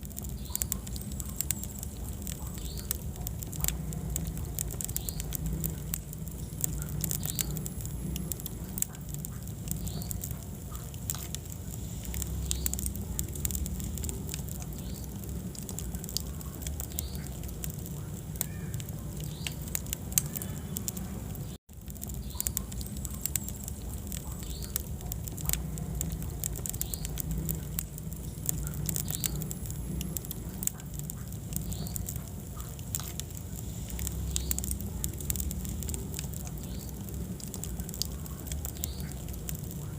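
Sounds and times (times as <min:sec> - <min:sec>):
fireplace fire rumbling: 0:00.0 - 0:39.9
logs crackling and popping: 0:00.0 - 0:39.9.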